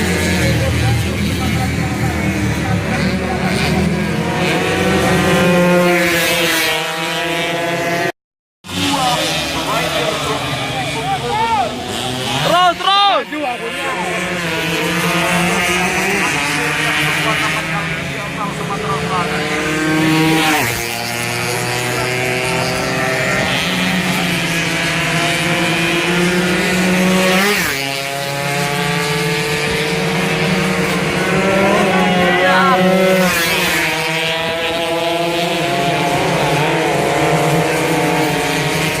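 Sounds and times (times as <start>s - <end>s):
racing motorcycles passing at high revs: 0.0s - 39.0s.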